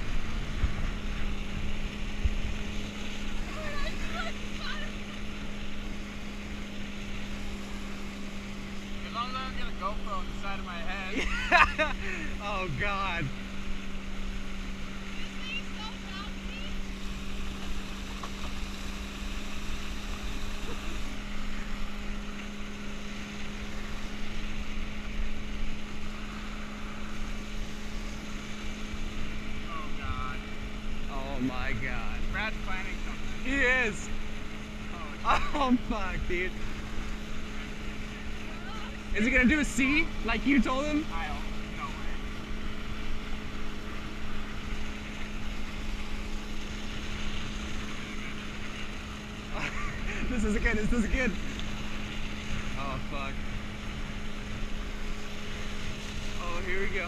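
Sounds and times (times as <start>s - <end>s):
motorboat engine hum: 0.0s - 57.0s
water rushing: 0.0s - 57.0s
wind: 0.0s - 57.0s.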